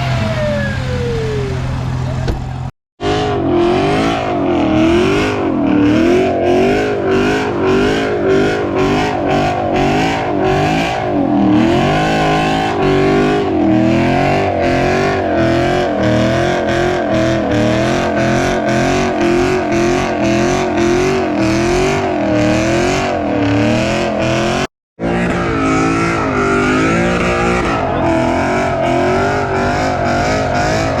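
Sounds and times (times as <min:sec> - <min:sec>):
car engine revving high: 0:00.0 - 0:31.0.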